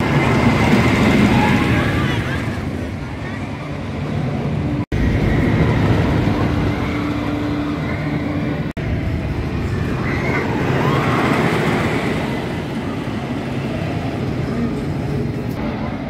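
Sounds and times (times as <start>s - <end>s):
roller coaster rumbling on wooden track: 0.0s - 16.0s.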